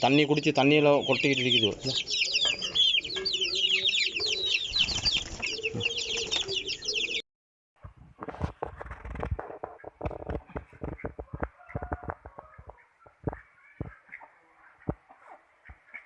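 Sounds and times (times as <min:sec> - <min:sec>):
chicks peeping: 0:00.0 - 0:07.2, 0:08.2 - 0:16.0
hens clucking: 0:00.0 - 0:07.2, 0:08.4 - 0:16.0.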